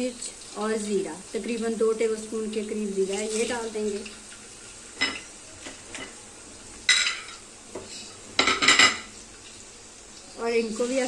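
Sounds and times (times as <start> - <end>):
spices frying in oil: 0.0 - 11.0.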